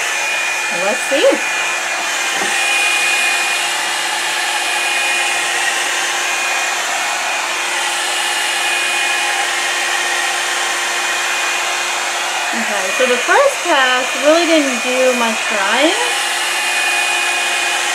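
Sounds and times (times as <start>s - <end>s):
hair dryer running: 0.0s - 17.9s.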